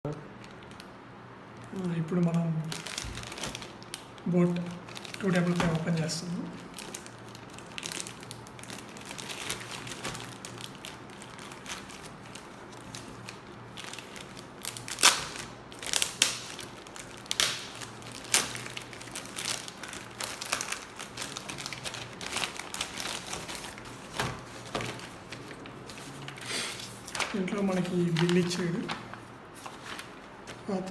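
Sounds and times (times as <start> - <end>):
packaging crinkling and crackling: 0.1 - 30.9.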